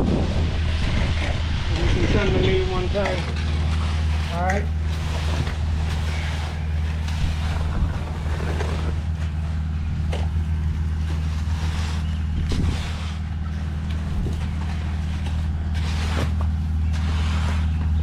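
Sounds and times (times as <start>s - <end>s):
diesel engine humming: 0.0s - 18.0s
straight edge scraping wet concrete: 0.7s - 18.0s.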